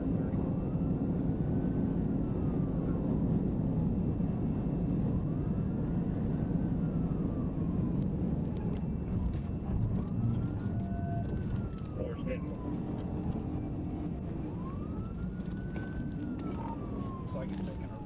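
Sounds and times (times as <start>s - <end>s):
police siren wailing: 0.0s - 18.0s
vehicle engine and road rumble: 0.0s - 18.0s.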